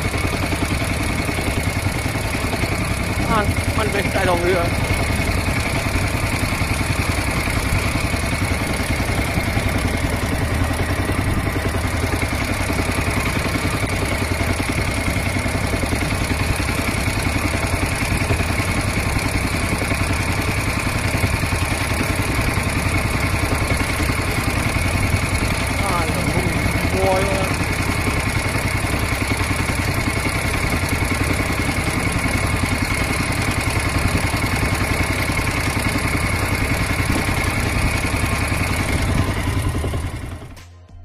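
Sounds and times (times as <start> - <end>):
small boat engine running: 0.0 - 41.0.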